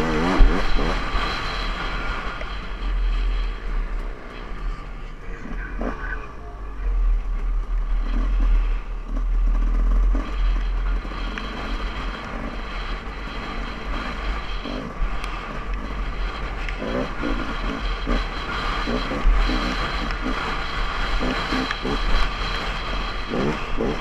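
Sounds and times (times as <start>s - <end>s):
dirt bike engine running: 0.0s - 24.0s
steady low rumble: 0.0s - 24.0s.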